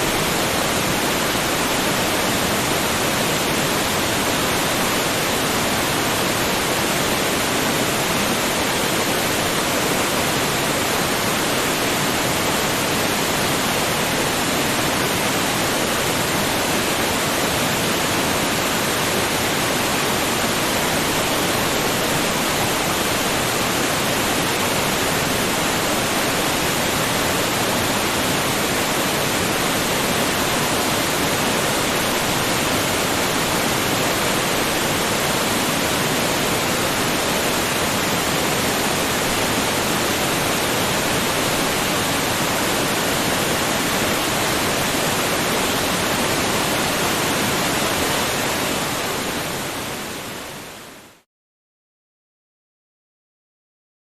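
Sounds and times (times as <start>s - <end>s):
waterfall rushing: 0.0s - 50.8s.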